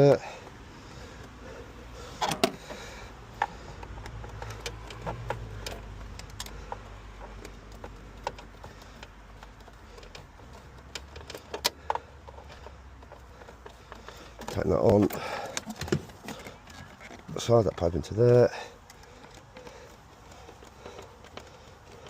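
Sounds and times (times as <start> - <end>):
plastic parts clicking and knocking: 1.2 - 22.0.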